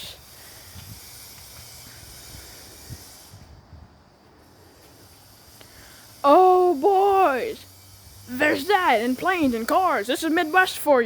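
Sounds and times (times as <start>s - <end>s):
rain hissing: 0.0s - 3.6s, 4.4s - 11.0s
wind gusting across microphone: 0.0s - 4.5s, 6.1s - 11.0s.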